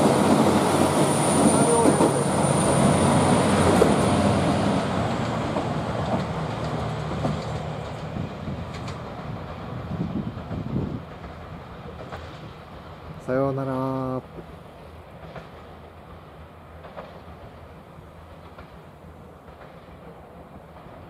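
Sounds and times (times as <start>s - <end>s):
diesel train running: 0.0s - 21.0s.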